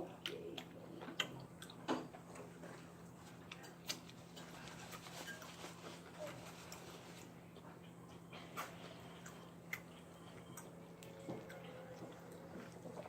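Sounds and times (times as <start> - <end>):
chewing crunchy food: 0.0 - 13.0
steady low hum: 0.0 - 13.0.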